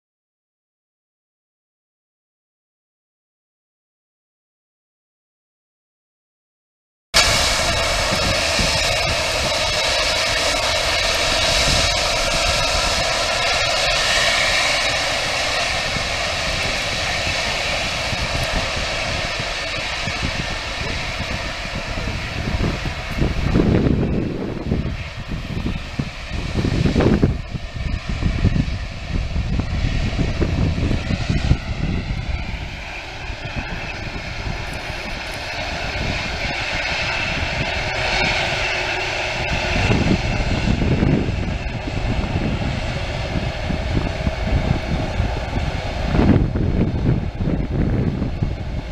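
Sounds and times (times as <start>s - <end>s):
jet engine rumble and whine: 7.2s - 48.9s
wind buffeting microphone: 7.2s - 48.9s.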